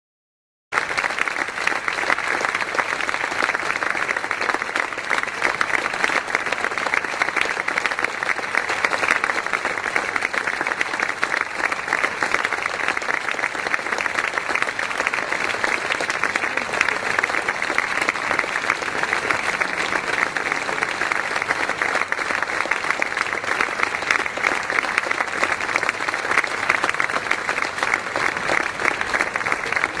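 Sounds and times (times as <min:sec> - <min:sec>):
large crowd applauding: 0:00.7 - 0:30.0.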